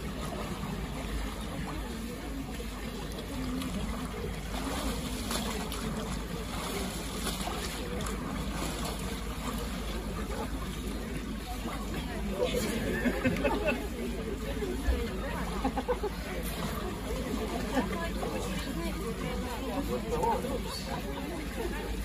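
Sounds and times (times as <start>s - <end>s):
faint murmur of voices: 0.0s - 22.0s
water sloshing and splashing: 0.0s - 22.0s.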